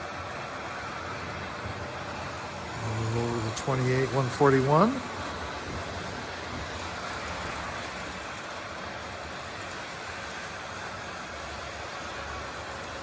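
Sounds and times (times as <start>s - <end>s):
model trains rumbling on track: 0.0s - 13.0s.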